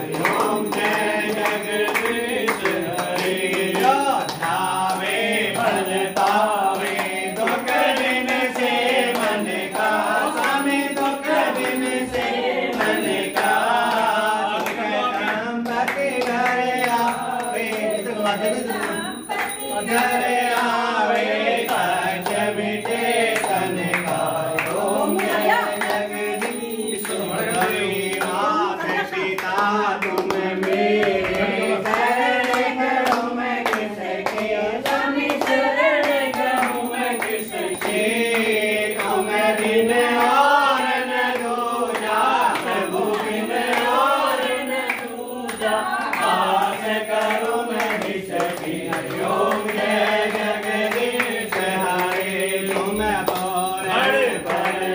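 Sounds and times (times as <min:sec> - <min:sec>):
hand clapping and clicks: 0:00.0 - 0:28.5, 0:29.4 - 0:54.9
group singing a hymn: 0:00.0 - 0:54.9.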